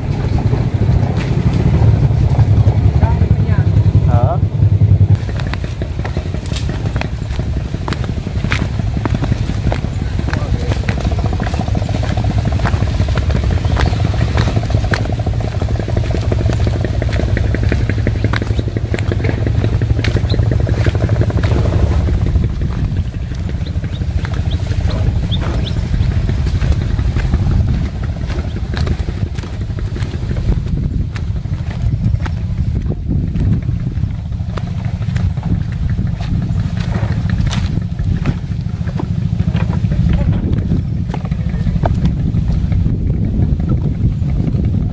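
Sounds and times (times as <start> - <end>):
footsteps: 0.0 - 3.3, 5.1 - 44.9
engine droning: 0.0 - 44.9
brushing vegetation: 5.2 - 42.9.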